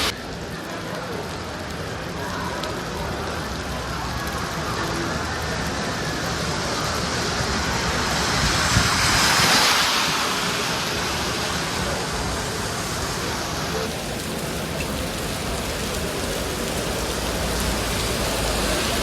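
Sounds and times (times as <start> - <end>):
heavy rain: 0.0 - 19.0
vehicle passing on wet road: 1.2 - 19.0.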